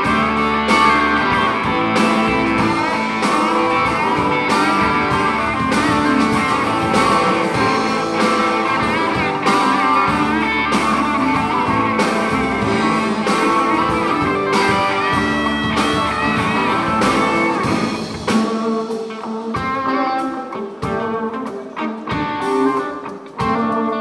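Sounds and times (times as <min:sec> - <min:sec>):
steady beat: 0:00.0 - 0:19.8
live band with guitar: 0:00.0 - 0:24.0.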